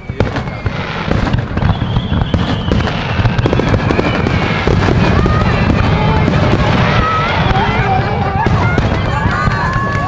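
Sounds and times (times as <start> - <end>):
faint firework whistle: 0.0 - 10.0
fireworks crackling and bursting: 0.0 - 10.0.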